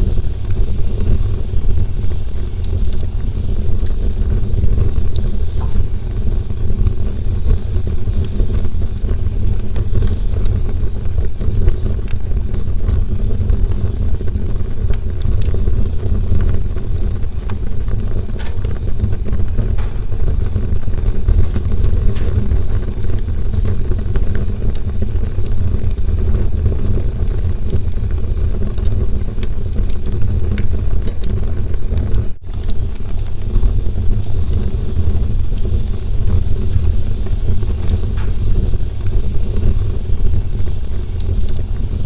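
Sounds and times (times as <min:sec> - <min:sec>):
fire crackles and pops: 0:00.0 - 0:42.0
low rumble of flames: 0:00.0 - 0:42.0.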